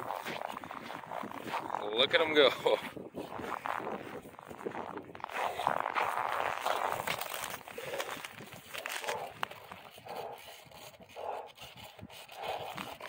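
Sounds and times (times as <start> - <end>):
footsteps crunching in snow: 0.0 - 11.5.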